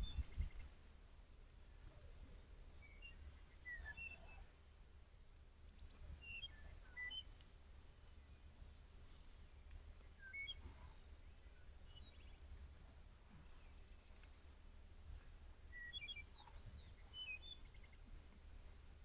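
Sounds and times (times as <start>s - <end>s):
songbird chirping: 0.0s - 4.8s, 5.6s - 19.0s
low steady rumble: 0.0s - 19.0s.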